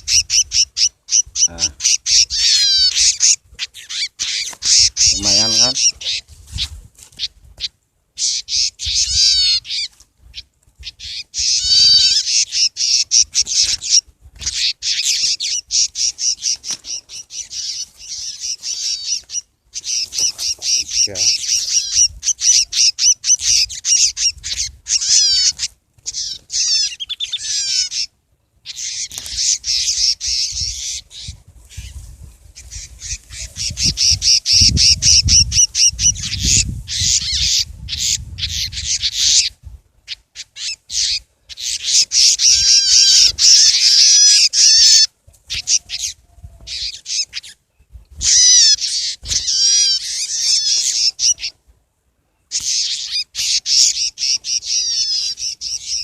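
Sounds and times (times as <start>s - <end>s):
bird chirping and trilling: 0.0s - 32.0s, 32.6s - 51.6s, 52.4s - 56.0s.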